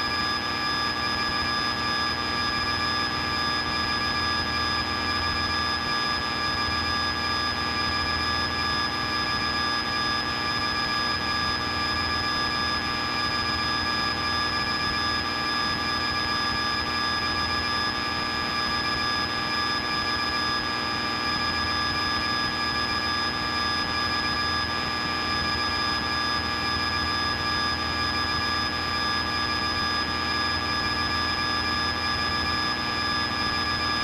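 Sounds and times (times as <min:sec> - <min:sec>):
propeller plane engine drone: 0:00.0 - 0:34.0.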